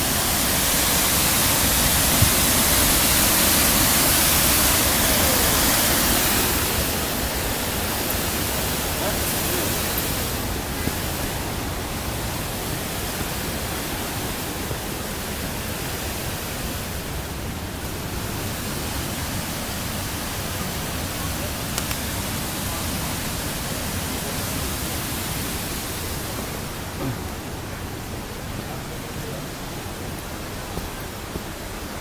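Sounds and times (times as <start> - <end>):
fast-flowing river water rushing: 0.0 - 32.0.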